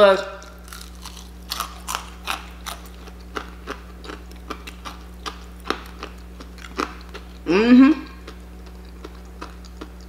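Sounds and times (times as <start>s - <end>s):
chewing crunchy fried chicken: 0.3s - 10.0s.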